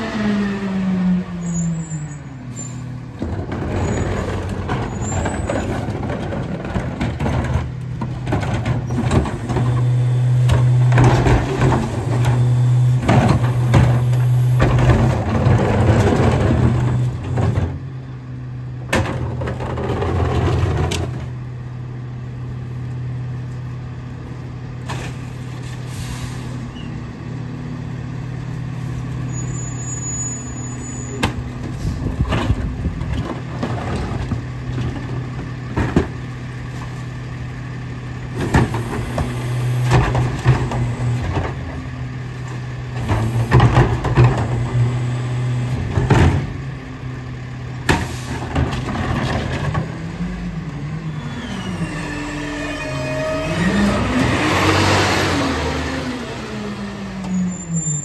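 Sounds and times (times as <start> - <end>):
hydraulic packer running: 2.5 - 21.6, 30.6 - 58.0.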